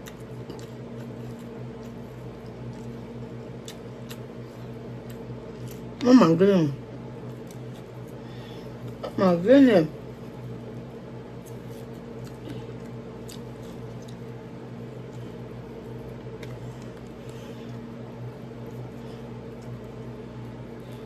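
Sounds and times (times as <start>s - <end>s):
person chewing wet food: 0.0s - 6.0s, 7.1s - 9.1s, 10.2s - 21.0s
steady low hum: 0.0s - 21.0s.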